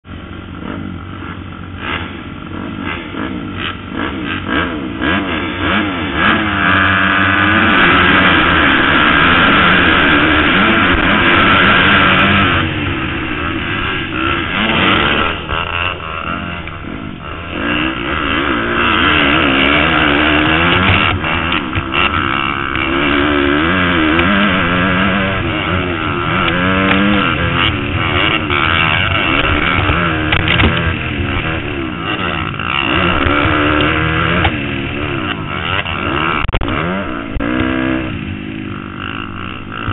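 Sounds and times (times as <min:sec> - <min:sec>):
motocross bike engines revving: 0:00.1 - 0:39.9.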